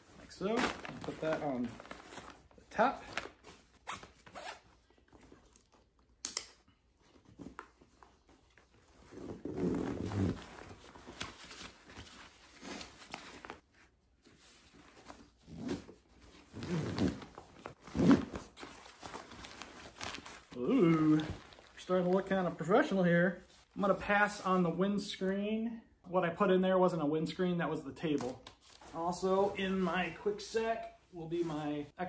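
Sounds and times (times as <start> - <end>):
nylon fabric rustling: 0.0 - 5.8, 7.0 - 24.6, 28.6 - 32.0.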